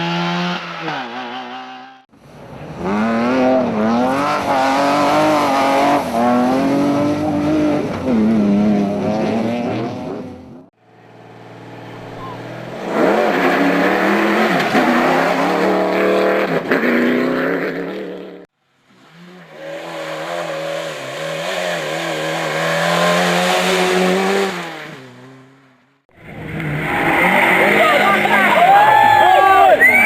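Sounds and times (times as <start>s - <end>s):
race car engine revving: 2.7s - 28.5s.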